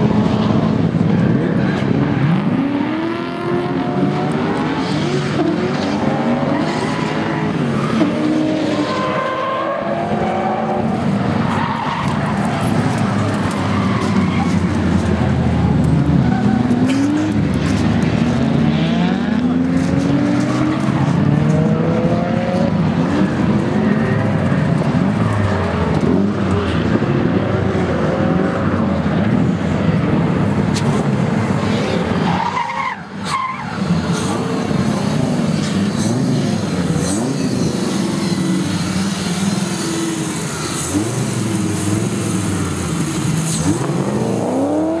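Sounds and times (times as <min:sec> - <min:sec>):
car engine revving: 0:00.0 - 0:32.4, 0:33.4 - 0:45.0
tyres skidding and squealing: 0:00.0 - 0:45.0.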